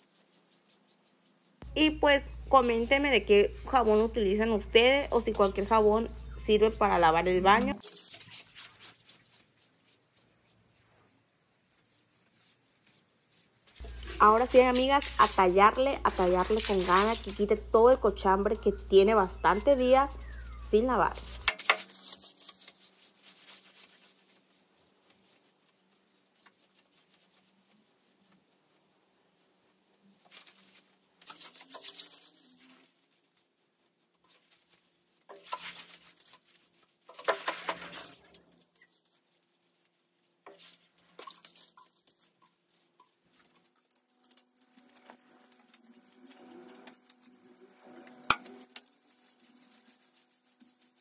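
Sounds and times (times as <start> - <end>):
scrubbing soapy surfaces: 0.0 - 46.3, 46.9 - 51.0.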